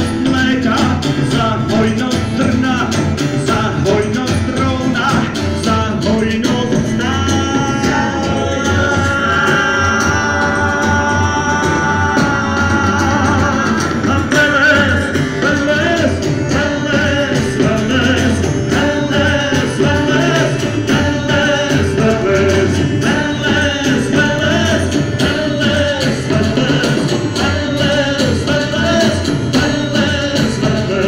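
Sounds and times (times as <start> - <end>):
double bass: 0.0 - 31.0
drums with steady beat: 0.0 - 31.0
guitar: 0.0 - 31.0
person singing: 0.0 - 31.0.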